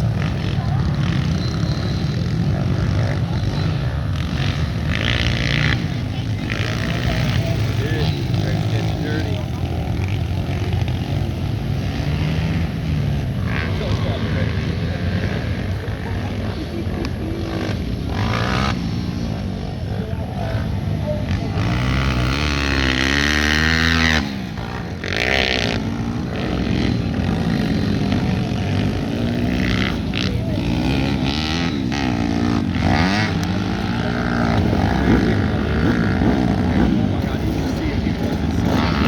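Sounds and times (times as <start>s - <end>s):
pit bike engines racing: 0.0s - 39.0s.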